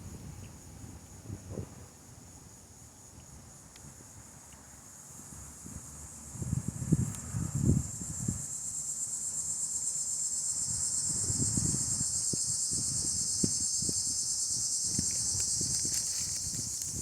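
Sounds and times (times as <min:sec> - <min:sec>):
insect chorus chirring: 0:00.0 - 0:17.0.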